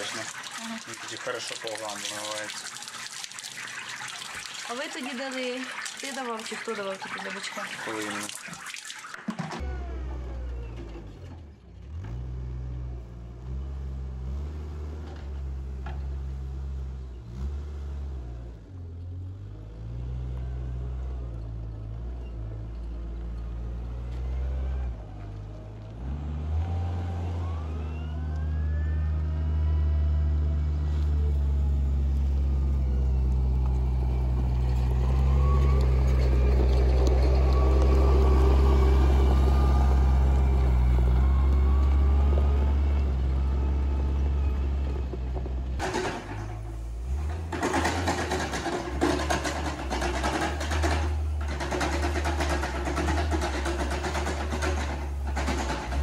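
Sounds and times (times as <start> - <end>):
diesel loader engine running: 9.6 - 56.0.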